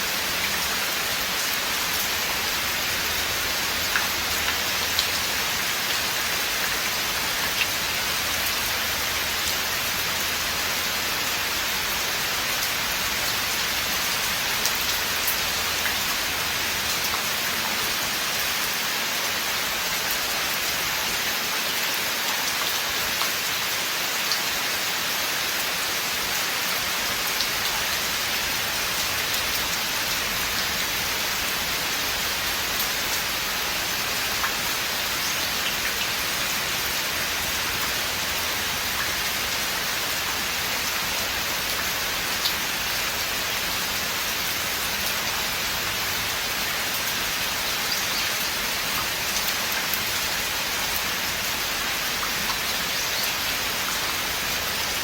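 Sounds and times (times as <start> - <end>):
rain falling in a forest: 0.0 - 55.0.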